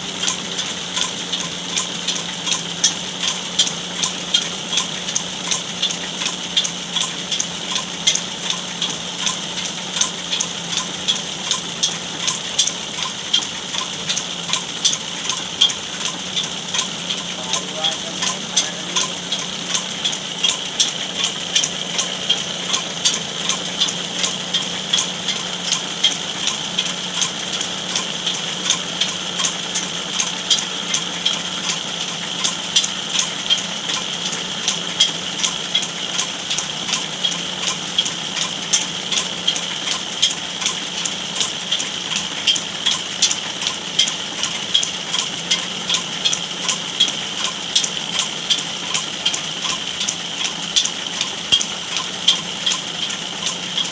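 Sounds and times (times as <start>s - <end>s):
sharp ticks: 0.0s - 53.9s
wood lathe cutting hiss: 0.0s - 53.9s.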